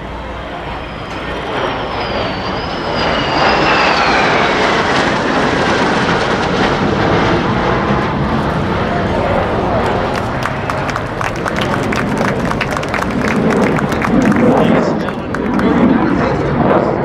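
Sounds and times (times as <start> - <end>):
jet engines roaring past: 0.0 - 17.0.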